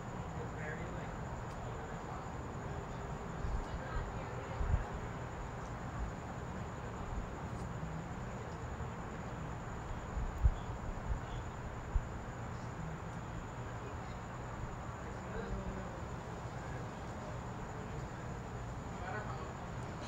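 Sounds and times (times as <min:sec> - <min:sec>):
faint high steady whine: 0:00.0 - 0:20.0.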